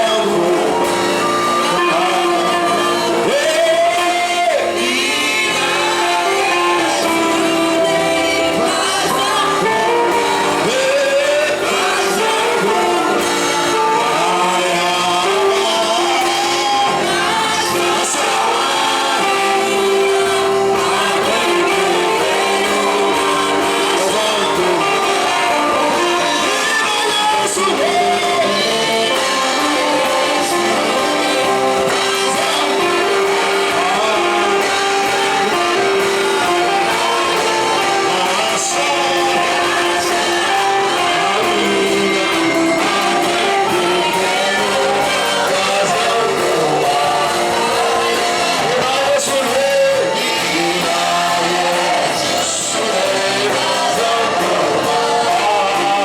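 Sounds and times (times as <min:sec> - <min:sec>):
instrumental accompaniment: 0:00.0 - 0:56.0
voices singing worship music: 0:00.0 - 0:56.0.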